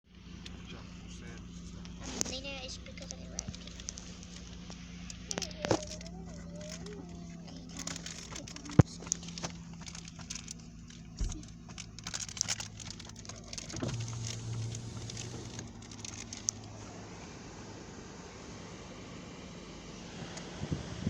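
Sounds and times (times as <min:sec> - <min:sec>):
steady low hum: 0:00.1 - 0:21.0.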